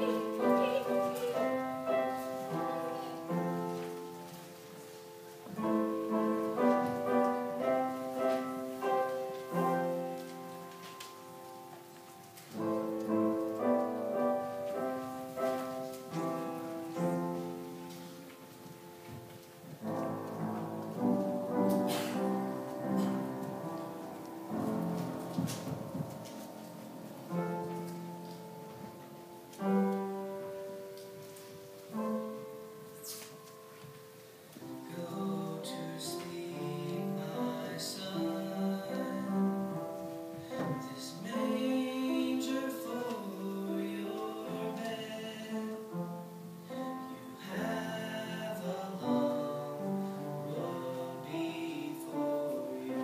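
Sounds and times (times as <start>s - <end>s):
slow piano piece: 0.0s - 53.0s.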